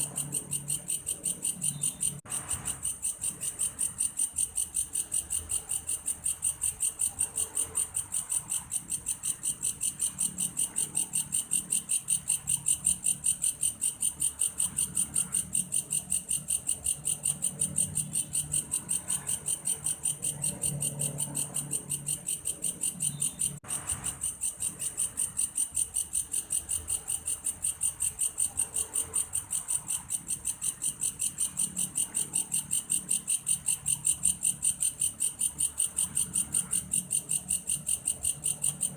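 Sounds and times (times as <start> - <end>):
grasshopper shrill chirping: 0.0 - 38.9.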